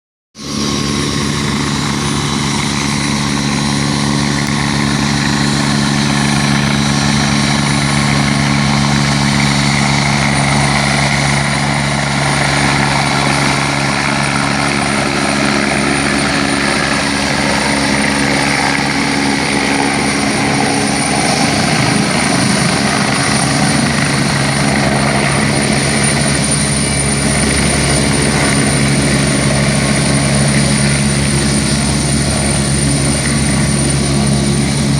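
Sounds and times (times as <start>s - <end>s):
helicopter rotor and engine: 0.4s - 34.9s.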